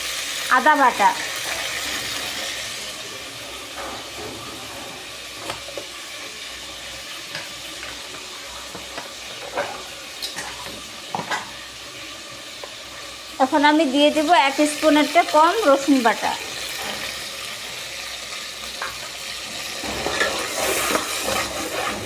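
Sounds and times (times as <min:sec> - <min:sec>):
spice paste sizzling in oil: 0:00.0 - 0:22.0.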